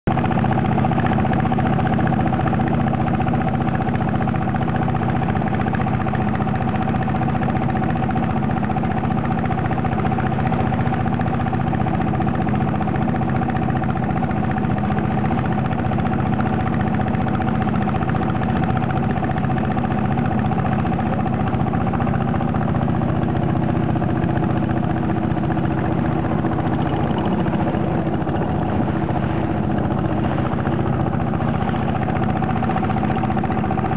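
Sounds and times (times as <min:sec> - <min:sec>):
boat engine running: 0:00.0 - 0:33.9
water along hull: 0:00.0 - 0:33.9.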